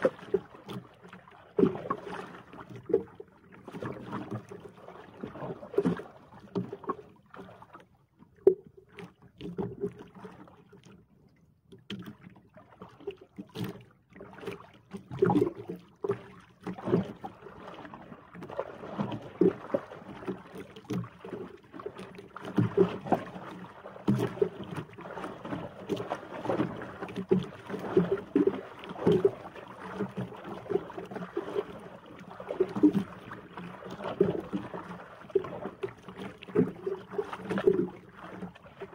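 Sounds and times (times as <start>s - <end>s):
waves slapping boat hull: 0.0s - 11.0s, 11.8s - 38.9s.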